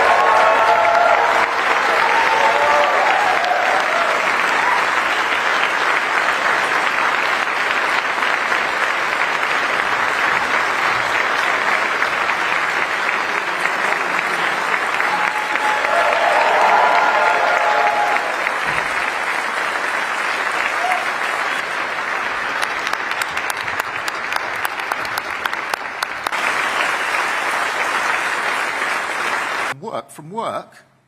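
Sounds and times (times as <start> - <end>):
crowd applauding: 0.0 - 29.8.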